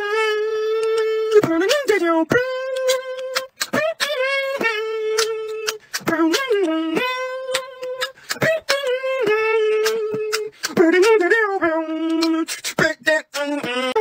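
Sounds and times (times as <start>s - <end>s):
hummed vocal tones: 0.0s - 14.0s
mouth percussion clicks: 0.6s - 11.3s, 12.0s - 13.8s.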